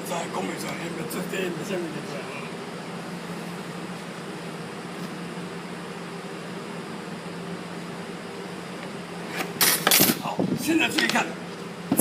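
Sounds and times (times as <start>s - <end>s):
ventilation fan hum: 0.0s - 12.0s.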